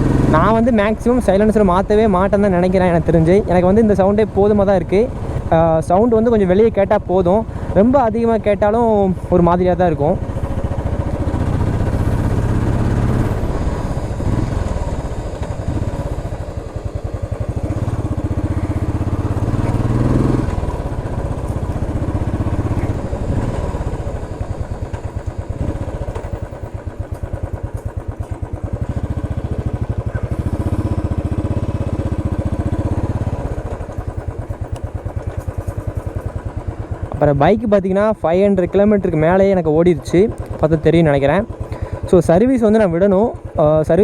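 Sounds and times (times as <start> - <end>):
motorcycle exhaust thumping: 0.0 - 44.0.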